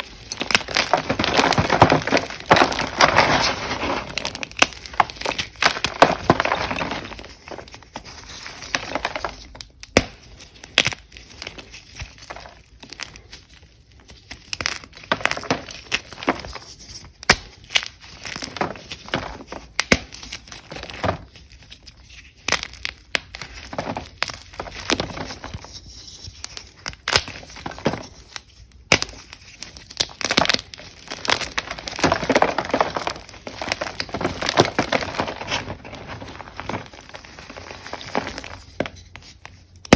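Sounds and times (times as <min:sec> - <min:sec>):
chalk blocks crunching: 0:00.0 - 0:13.3, 0:14.5 - 0:39.9.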